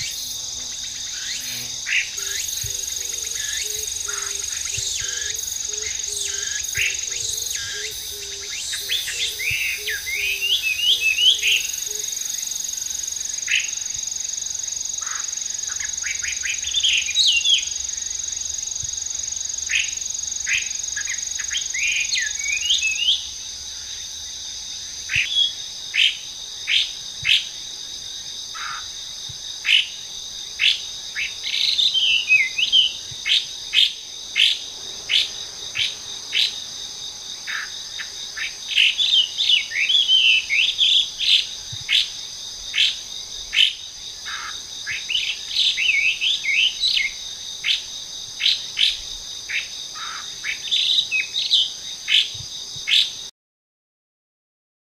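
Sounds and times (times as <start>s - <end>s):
high-pitched insect drone: 0.0s - 52.3s.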